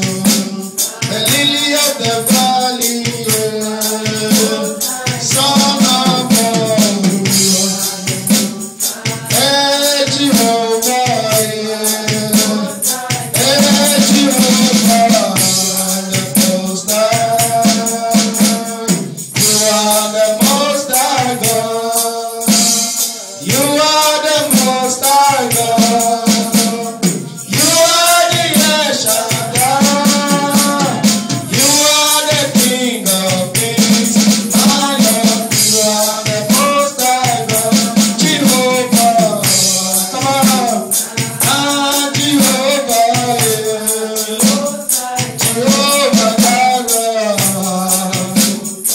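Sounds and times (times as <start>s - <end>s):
congregation singing: 0.0s - 48.9s
tambourine and shakers: 0.0s - 48.9s.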